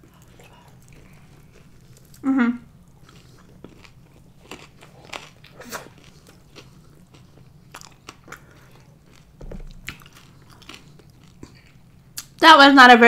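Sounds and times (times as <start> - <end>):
chewing chicken wing: 0.0 - 12.4.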